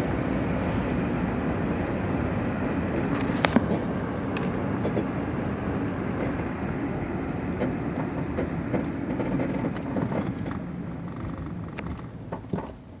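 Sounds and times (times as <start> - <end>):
car front end rattling and clunking: 2.0 - 13.0.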